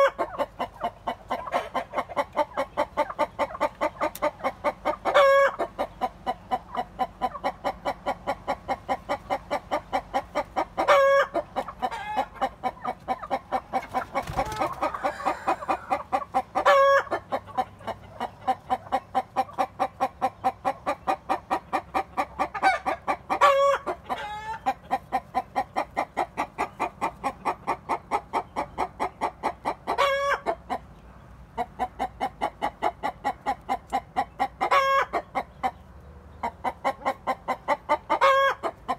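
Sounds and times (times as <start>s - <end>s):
hen clucking: 0.0s - 38.9s.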